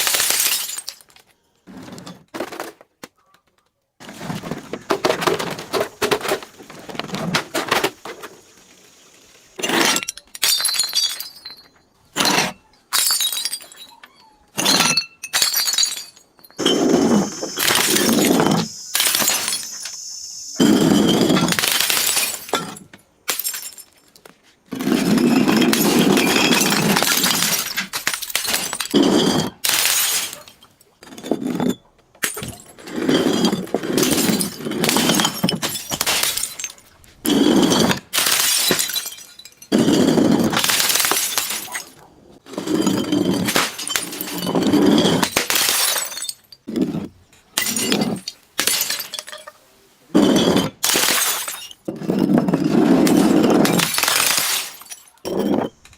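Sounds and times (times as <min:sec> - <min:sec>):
glass bottles being crushed: 0:00.0 - 0:02.8, 0:04.1 - 0:08.2, 0:09.6 - 0:55.9.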